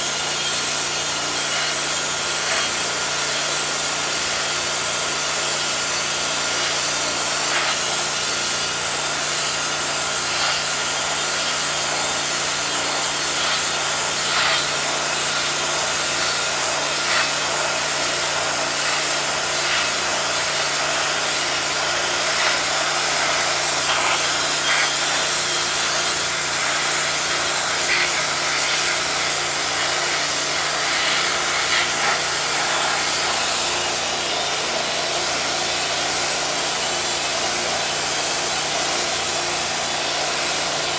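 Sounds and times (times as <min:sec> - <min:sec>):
pressure washer spraying metal: 0:00.0 - 0:40.9.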